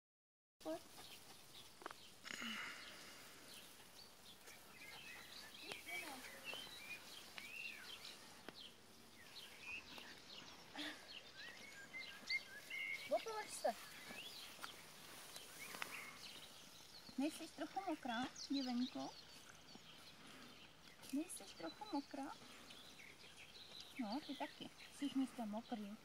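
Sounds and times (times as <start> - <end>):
bird chirps: 0.7 - 26.0.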